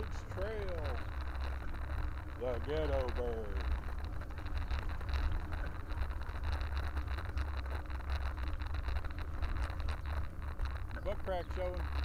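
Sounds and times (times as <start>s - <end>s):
bike rattling on brick paving: 0.0s - 12.0s
wind buffeting microphone: 0.0s - 12.0s.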